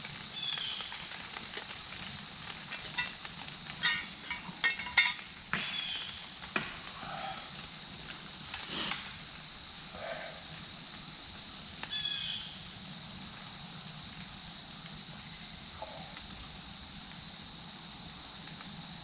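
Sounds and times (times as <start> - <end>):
woodland background hiss: 0.0 - 19.0.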